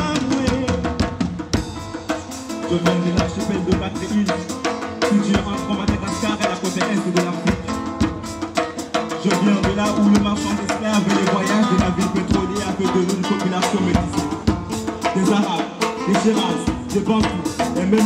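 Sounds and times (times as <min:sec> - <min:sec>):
drum kit beat: 0:00.0 - 0:18.0.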